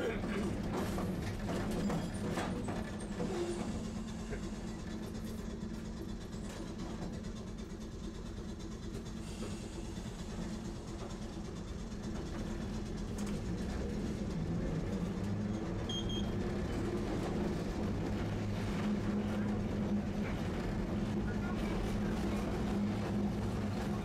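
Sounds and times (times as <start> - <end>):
streetcar motor and rail hum: 0.0 - 24.0.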